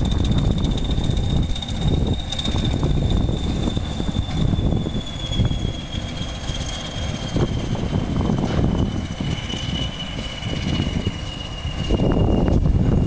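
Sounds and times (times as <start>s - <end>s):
diesel locomotive engine whistle: 0.0s - 13.0s
low rumble: 0.0s - 13.0s.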